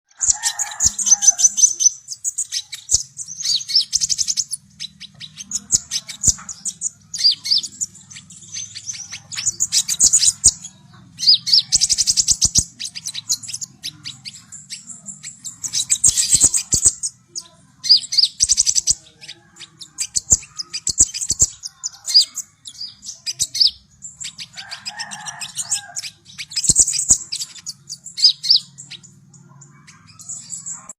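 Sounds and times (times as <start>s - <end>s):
bird singing high chattering trills: 0.0s - 30.9s.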